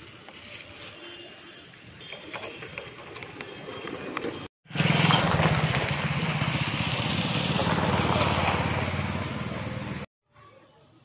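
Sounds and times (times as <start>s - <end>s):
outdoor noise: 0.0s - 11.0s.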